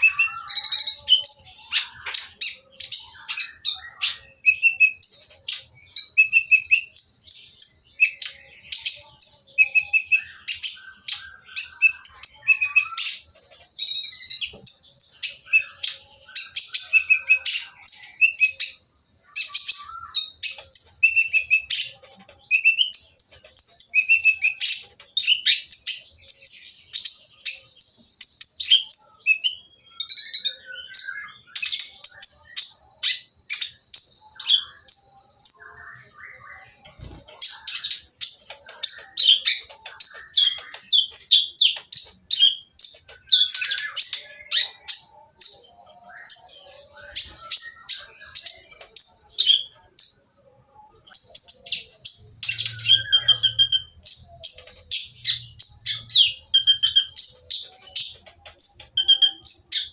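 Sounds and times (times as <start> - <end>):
bird song of chips and trills: 0.0 - 59.9.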